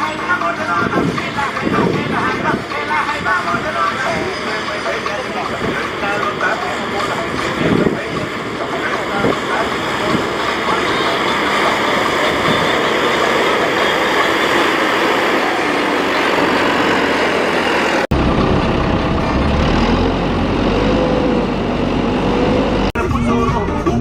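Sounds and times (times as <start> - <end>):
deep heavy engine: 0.0 - 24.0
tractor engines running: 0.0 - 24.0.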